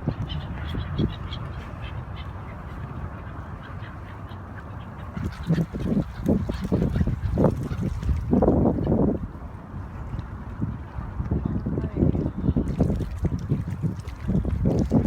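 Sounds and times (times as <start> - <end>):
waterbirds calling: 0.0 - 15.0.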